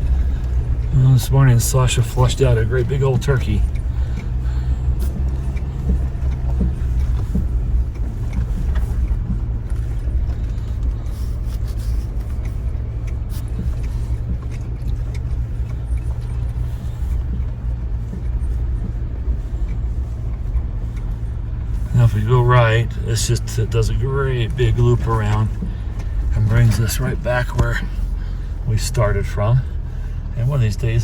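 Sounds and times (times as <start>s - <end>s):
vehicle engine drone: 0.0s - 31.0s.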